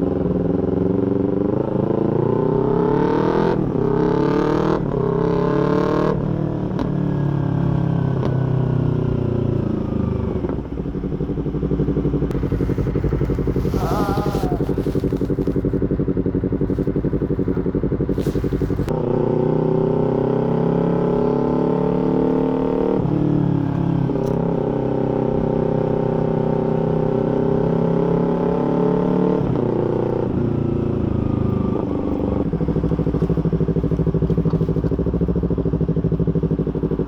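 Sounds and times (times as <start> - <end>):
motorcycle accelerating: 0.0 - 37.0.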